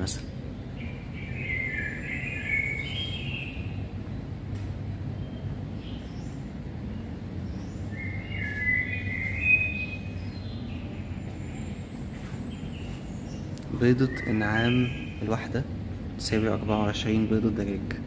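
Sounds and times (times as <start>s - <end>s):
bird chirping: 0.0s - 17.8s
low outdoor rumble: 0.0s - 18.0s.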